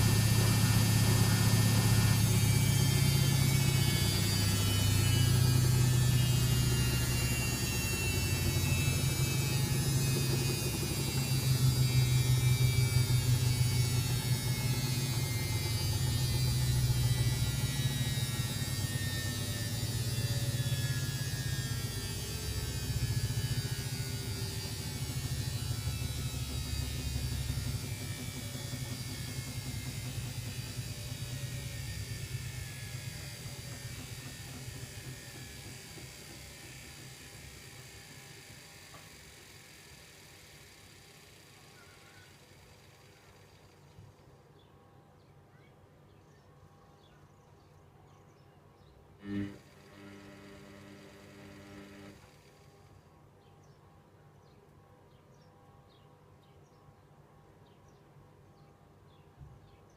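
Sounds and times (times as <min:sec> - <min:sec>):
washing machine motor whine: 0:00.0 - 0:44.9, 0:48.9 - 0:53.3.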